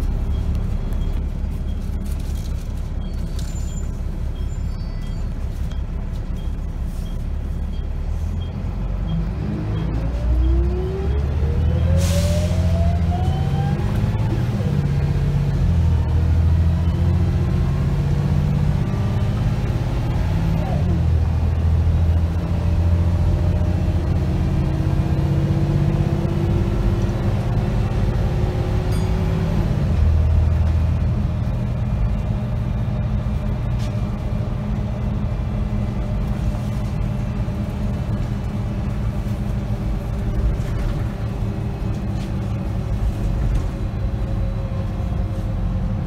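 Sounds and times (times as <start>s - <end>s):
bus diesel engine accelerating: 0.0s - 46.0s.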